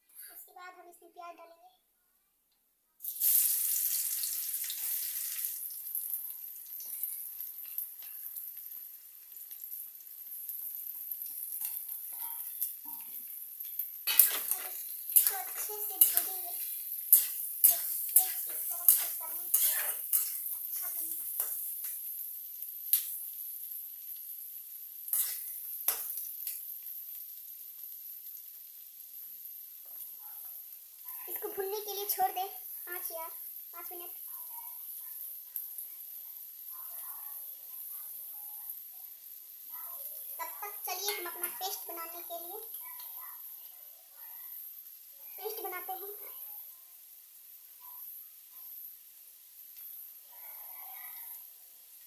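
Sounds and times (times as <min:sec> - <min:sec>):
onions sizzling in hot oil: 0:03.0 - 0:52.0.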